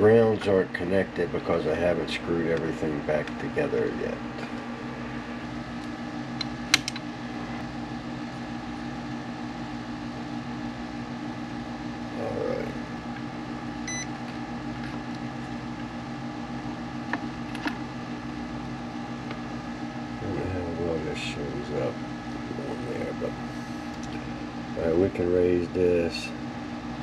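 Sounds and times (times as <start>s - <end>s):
power supply humming: 0.0s - 27.0s.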